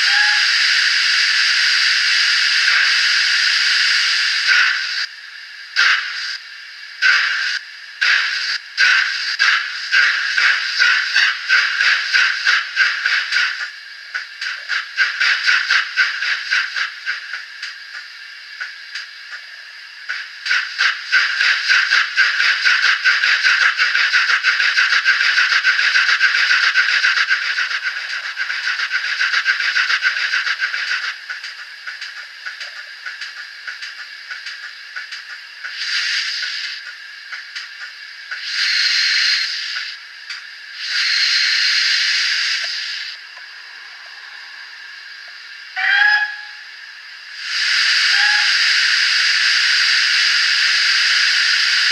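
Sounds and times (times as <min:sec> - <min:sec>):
model train steam exhaust beat: 0:00.0 - 0:51.9.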